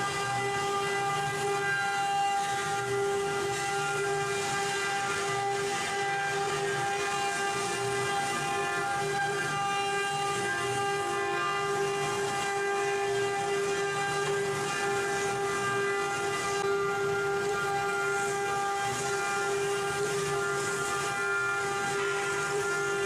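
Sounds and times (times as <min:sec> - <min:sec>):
router spindle high whine: 0:00.0 - 0:23.0.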